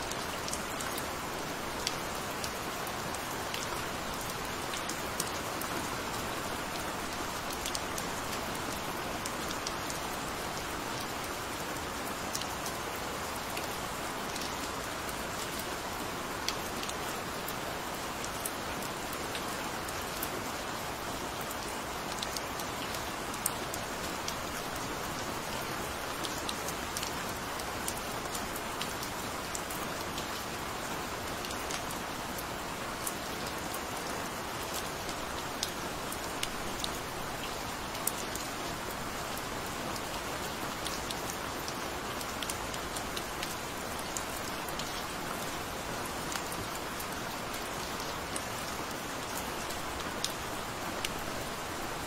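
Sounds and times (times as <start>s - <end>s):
gentle rain hissing: 0.0s - 52.0s
rain drops ticking: 0.0s - 52.0s.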